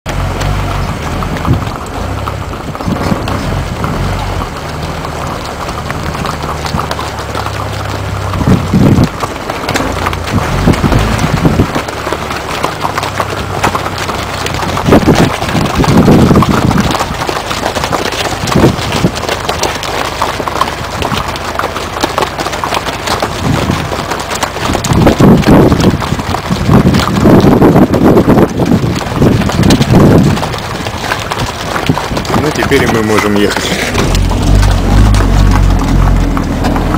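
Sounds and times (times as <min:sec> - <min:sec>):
car engine idling: 0:00.1 - 0:36.9
hooves clopping on asphalt: 0:00.1 - 0:36.9
low rumbles: 0:00.1 - 0:36.9.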